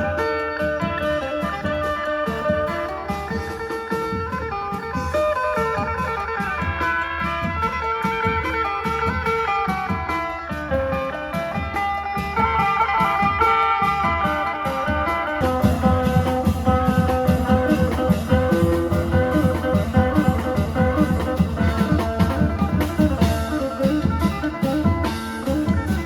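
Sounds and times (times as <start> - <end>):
drums and percussion beat: 0.0 - 26.0.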